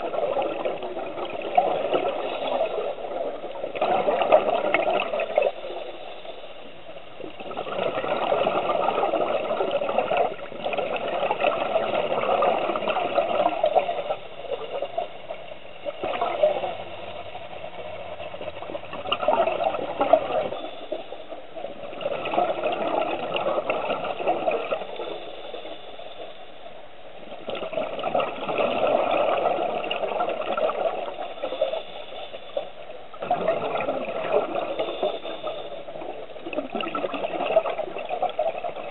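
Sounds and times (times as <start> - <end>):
regulator bubbling exhaled air: 0.0 - 5.9, 7.2 - 15.1, 15.8 - 25.7, 27.4 - 31.9, 32.5 - 38.9.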